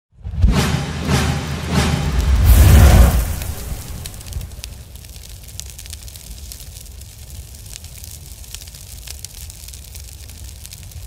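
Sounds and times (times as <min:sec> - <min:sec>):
fire crackling: 0:01.0 - 0:11.0.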